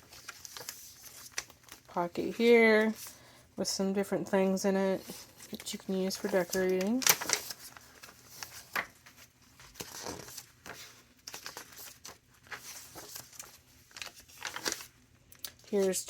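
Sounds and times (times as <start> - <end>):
paper pages rustling: 0.0 - 3.2, 5.0 - 16.0.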